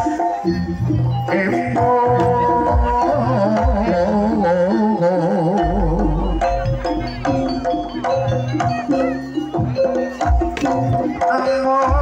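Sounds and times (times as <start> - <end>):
deep drum beats: 0.0 - 12.0
gamelan metallophones: 0.0 - 12.0
hand drums: 0.0 - 12.0.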